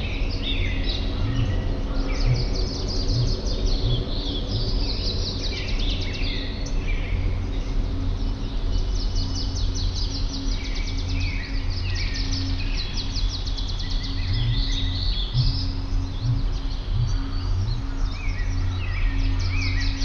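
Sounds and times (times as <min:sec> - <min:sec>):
bird trill of rapid ticks: 0:00.0 - 0:20.0
songbirds singing and chirping: 0:00.0 - 0:20.0
steady low hum: 0:00.0 - 0:20.0.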